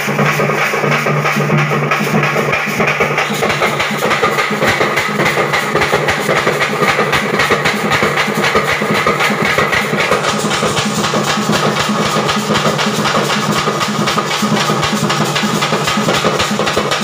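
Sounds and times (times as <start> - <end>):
drum ensemble playing: 0.0 - 17.0.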